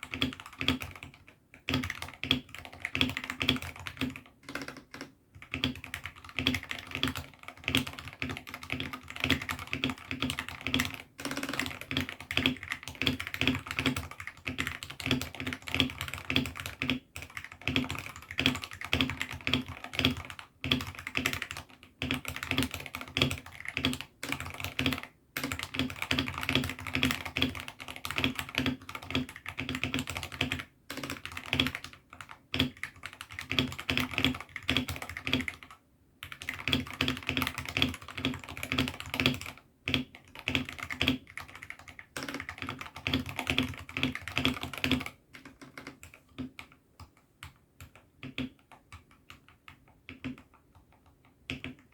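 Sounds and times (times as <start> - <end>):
mechanical keyboard typing: 0.0 - 51.9.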